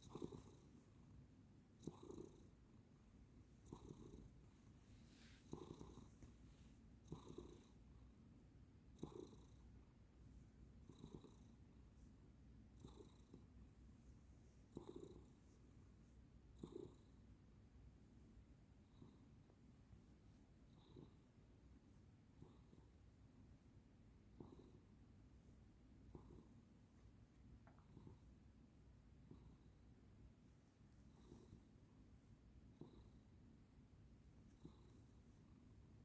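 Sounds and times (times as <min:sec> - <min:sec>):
cat snoring softly: 0:00.0 - 0:08.2, 0:08.8 - 0:27.0, 0:27.6 - 0:36.0.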